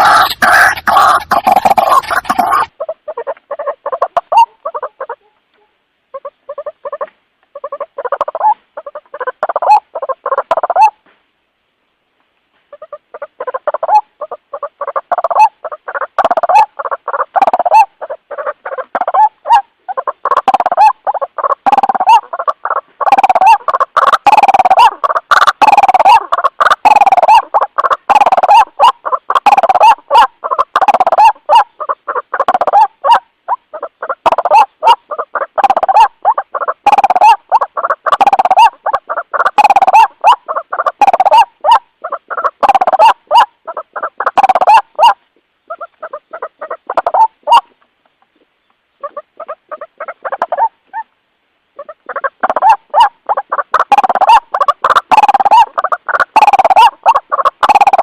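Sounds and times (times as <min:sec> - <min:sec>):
waterhen calling: 0:00.0 - 0:11.0, 0:12.6 - 0:58.0.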